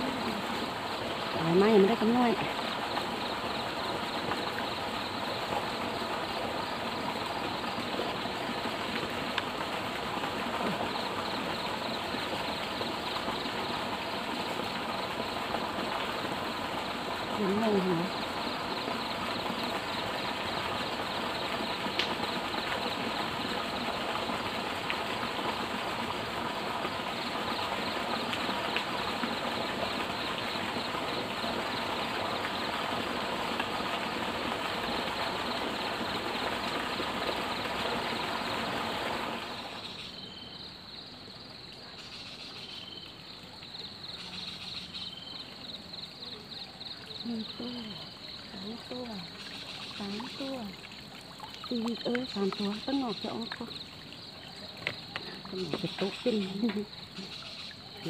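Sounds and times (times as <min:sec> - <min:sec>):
rushing water: 0:00.0 - 0:40.2, 0:41.6 - 0:58.0.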